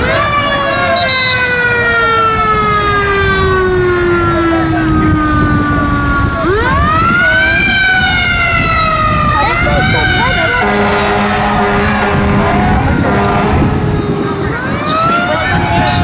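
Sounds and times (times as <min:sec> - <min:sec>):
fire engine siren wailing: 0:00.0 - 0:16.0
low rumble of wind or traffic: 0:00.0 - 0:16.0.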